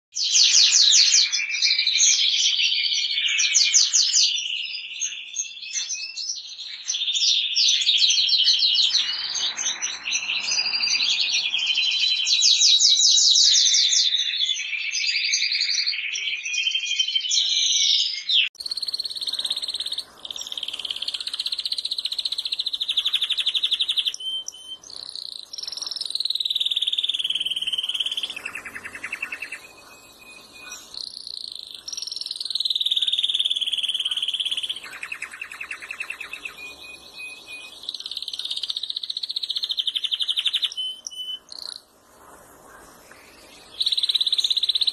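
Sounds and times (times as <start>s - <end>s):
canaries singing trills: 0.2s - 44.9s
different bird singing: 0.2s - 44.9s.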